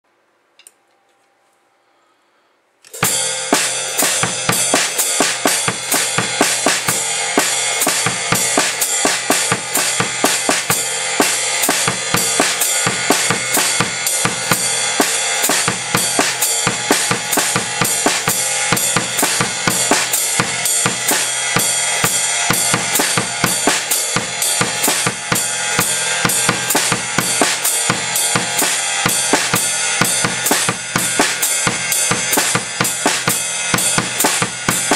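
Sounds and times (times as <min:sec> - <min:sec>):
drum kit playing groove: 0:02.9 - 0:34.9.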